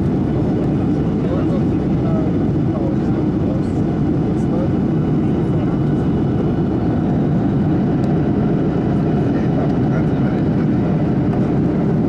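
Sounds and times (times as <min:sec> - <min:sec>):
airflow over fuselage: 0:00.0 - 0:12.0
airplane cabin engine rush: 0:00.0 - 0:12.0.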